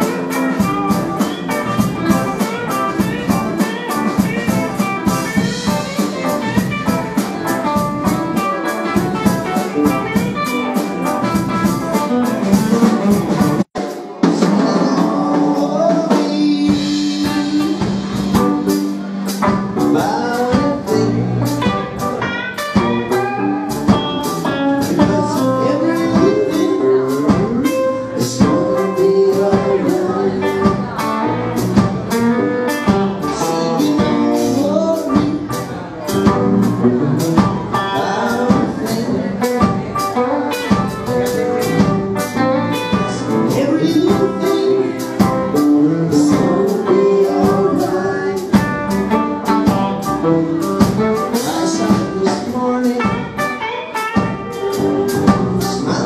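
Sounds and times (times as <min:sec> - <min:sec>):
drum beat: 0:00.0 - 0:56.0
live band playing: 0:00.0 - 0:56.0.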